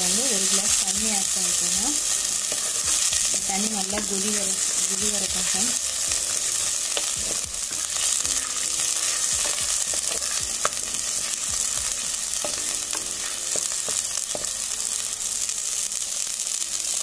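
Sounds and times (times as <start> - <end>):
oil and onions sizzling in a pot: 0.0 - 17.0.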